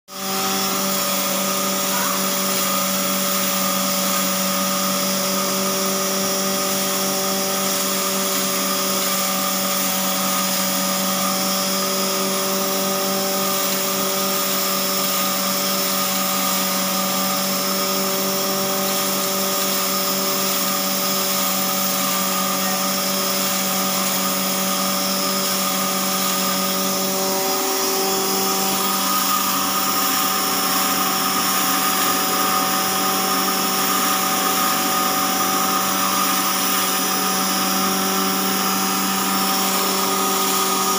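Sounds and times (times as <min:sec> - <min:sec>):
flour mill motor humming: 0:00.1 - 0:40.9.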